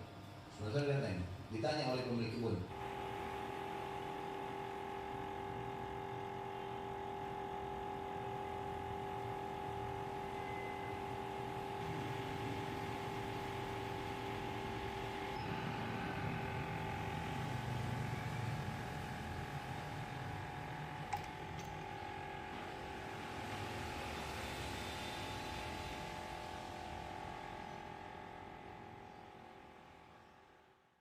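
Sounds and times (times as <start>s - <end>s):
small fan motor humming: 2.7s - 30.4s.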